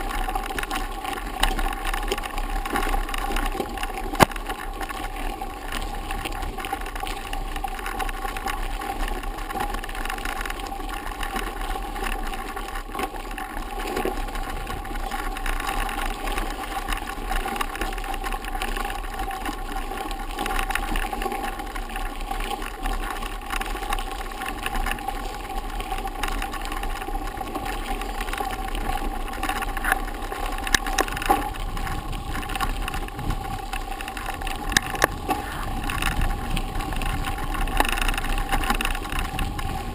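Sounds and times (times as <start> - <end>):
bicycle knocking over bumps: 0.0 - 39.9
bicycle tyres crunching on gravel: 0.0 - 39.9.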